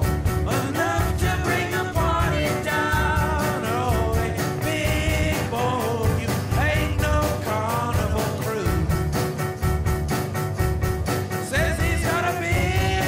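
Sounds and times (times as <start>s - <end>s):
rock and roll song with singing: 0.0s - 13.0s.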